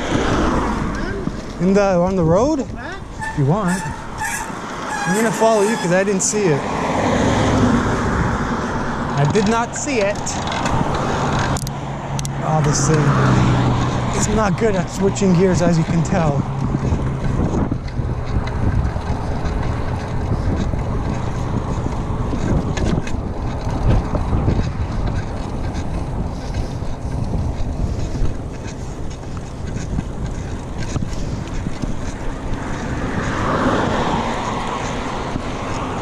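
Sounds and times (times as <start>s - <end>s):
mountain bike rumbling and rattling: 0.0s - 36.0s
wind buffeting microphone: 0.0s - 36.0s.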